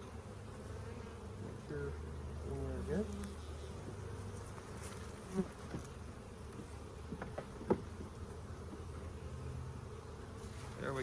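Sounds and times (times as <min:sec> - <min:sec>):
hum of many bees: 0:00.0 - 0:11.0
single bee buzzing past: 0:00.0 - 0:11.0.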